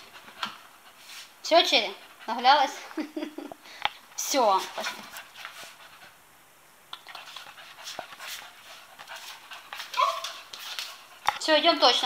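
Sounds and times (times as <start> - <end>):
dog panting hard: 0.0 - 3.0, 4.3 - 6.2, 7.0 - 12.0.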